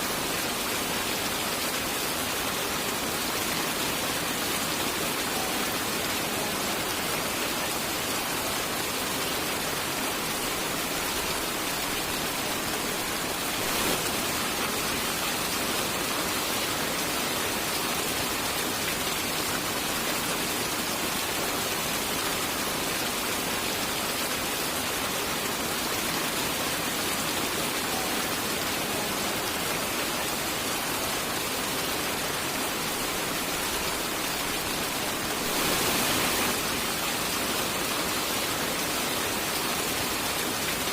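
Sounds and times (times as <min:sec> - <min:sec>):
dense rainfall: 0:00.0 - 0:40.9.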